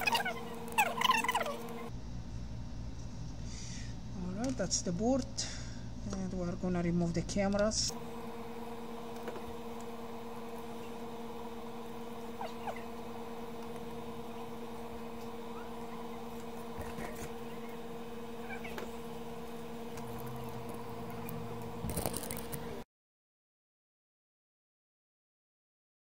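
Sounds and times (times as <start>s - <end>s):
steady electrical hum: 0.0s - 22.8s.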